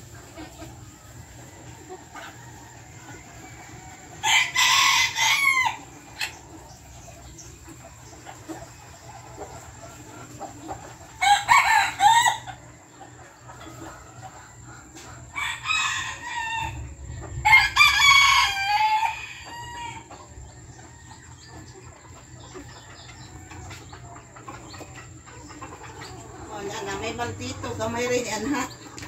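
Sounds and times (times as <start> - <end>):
chicken clucking: 0.0 - 29.0
roosters crowing: 0.6 - 29.0.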